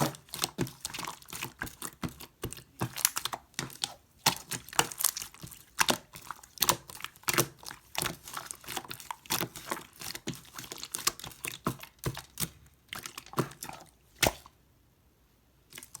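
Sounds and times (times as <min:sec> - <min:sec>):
slime squished by hand: 0:00.0 - 0:14.6.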